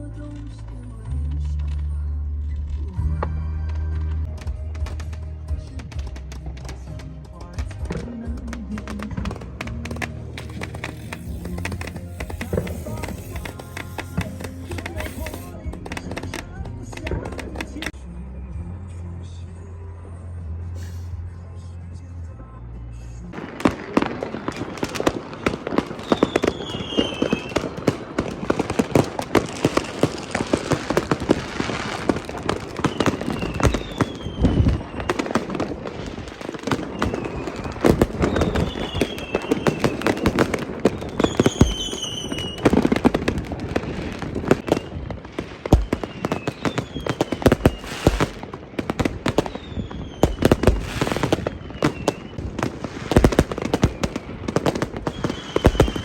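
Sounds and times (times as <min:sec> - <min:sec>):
whistling fireworks: 0:03.3 - 0:18.7, 0:23.3 - 0:56.0
firecrackers crackling: 0:03.7 - 0:18.0, 0:23.3 - 0:56.0
deep firework booms: 0:04.3 - 0:18.0, 0:23.4 - 0:56.0.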